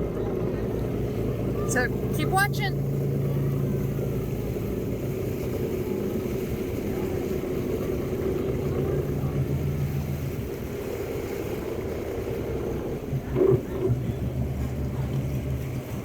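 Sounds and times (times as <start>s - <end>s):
boat engine humming: 0.0s - 16.0s
wind and water hiss: 0.0s - 16.0s.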